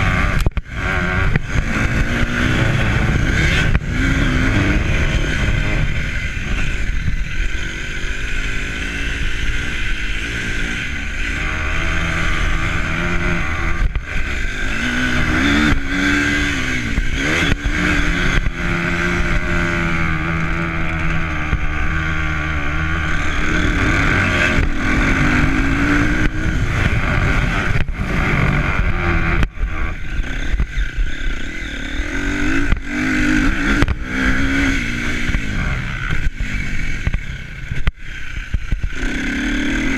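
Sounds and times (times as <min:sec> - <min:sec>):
steady loud rushing noise: 0:00.0 - 0:39.9
vehicle engine running: 0:00.0 - 0:39.9.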